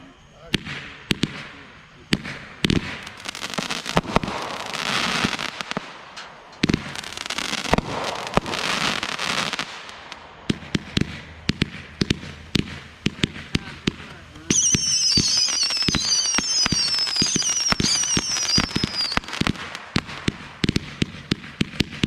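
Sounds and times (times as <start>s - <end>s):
fireworks crackling: 0.0s - 22.0s
firework bangs: 0.4s - 22.0s.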